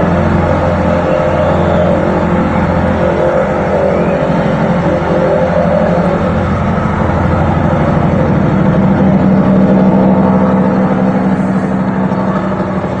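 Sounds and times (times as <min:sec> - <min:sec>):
low droning rumble over loudspeakers: 0:00.0 - 0:13.0.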